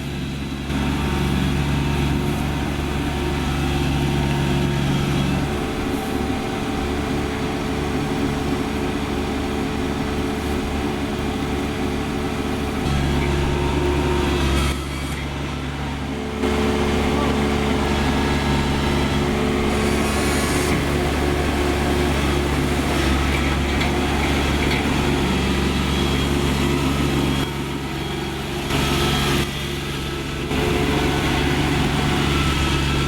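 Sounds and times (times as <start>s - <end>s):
combine harvester diesel engine: 0.0s - 33.0s.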